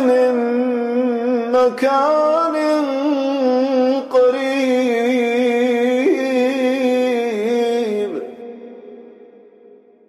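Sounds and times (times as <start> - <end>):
man reciting melodically: 0.0 - 9.4.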